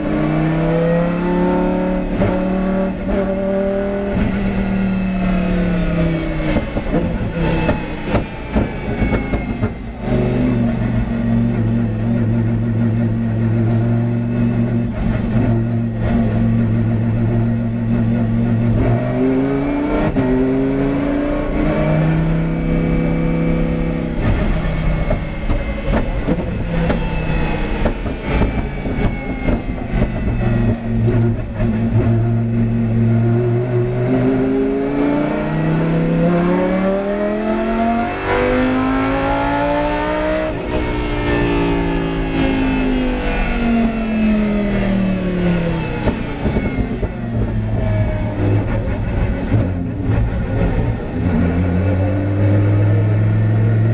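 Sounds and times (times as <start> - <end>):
race car engine revving: 0.0 - 53.9.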